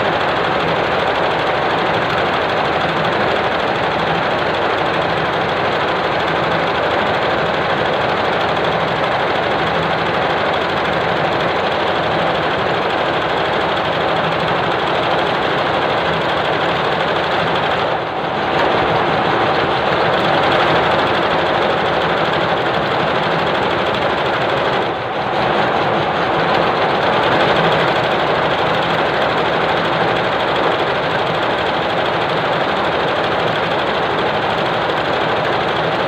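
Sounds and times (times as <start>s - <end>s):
embroidery machine clatter: 0.0s - 36.0s.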